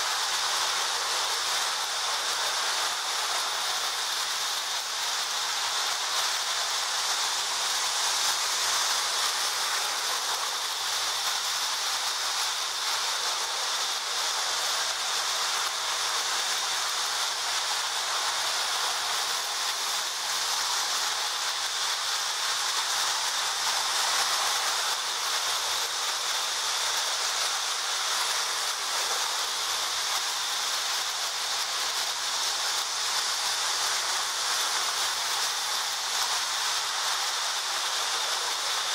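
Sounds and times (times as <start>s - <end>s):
toy train motors running: 0.0s - 38.9s
toy train wheels hissing on rails: 0.0s - 38.9s.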